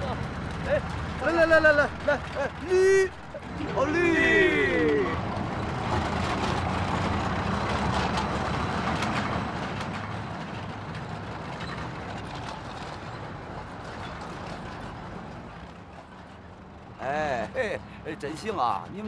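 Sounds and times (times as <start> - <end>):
tracks clattering: 0.0 - 16.9
tracked vehicle engine droning: 0.0 - 19.0.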